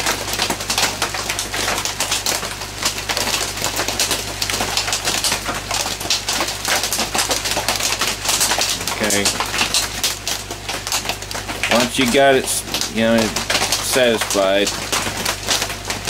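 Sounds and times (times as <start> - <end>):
heavy rain on a tin roof: 0.0 - 16.0
steady low hum: 0.0 - 16.0.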